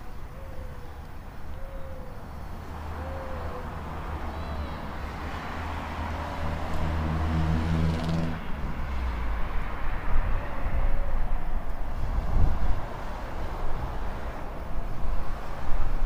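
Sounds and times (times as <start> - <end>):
low street rumble: 0.0 - 16.0
vehicle passing by: 2.5 - 16.0.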